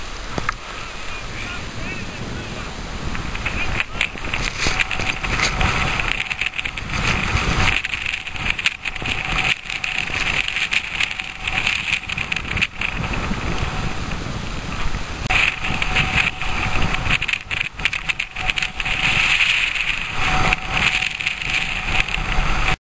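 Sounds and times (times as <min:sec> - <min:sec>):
wind buffeting microphone: 0:00.0 - 0:22.8.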